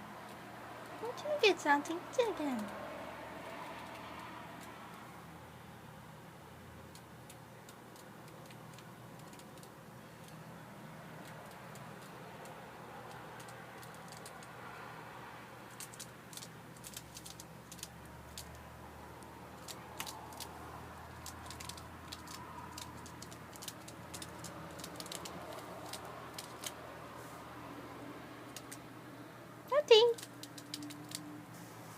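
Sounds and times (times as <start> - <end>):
faint room noise: 0.0 - 31.9.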